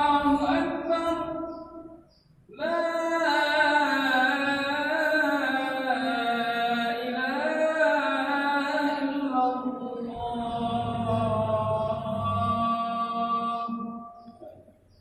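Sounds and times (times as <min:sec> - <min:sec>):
solo voice chanting: 0:00.0 - 0:01.8, 0:02.5 - 0:14.4.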